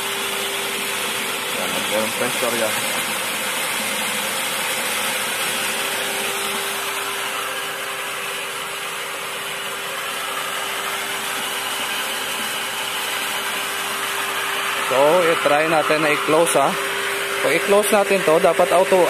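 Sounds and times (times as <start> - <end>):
electric water pump running: 0.0 - 19.0.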